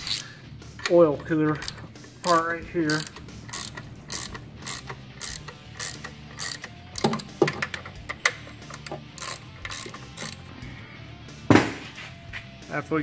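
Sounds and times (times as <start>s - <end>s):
ratcheting wrench clicking: 0.0s - 10.5s.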